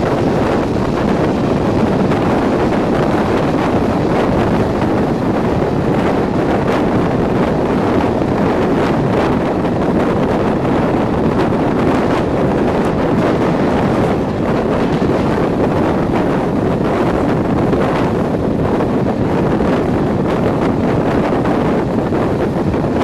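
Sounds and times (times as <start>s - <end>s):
train running noise: 0.0s - 23.0s
wind rushing over microphone: 0.0s - 23.0s.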